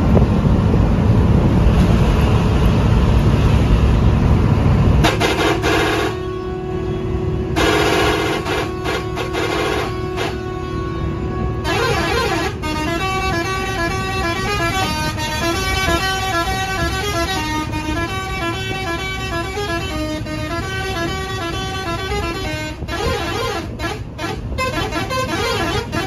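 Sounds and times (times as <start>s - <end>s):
bus engine rumble: 0.0s - 26.0s
musical vehicle horn tune: 5.0s - 26.0s.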